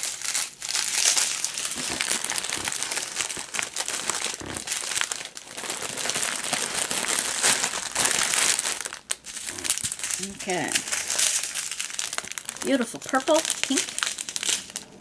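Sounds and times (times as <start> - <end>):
plastic packets crinkling: 0.0 - 15.0.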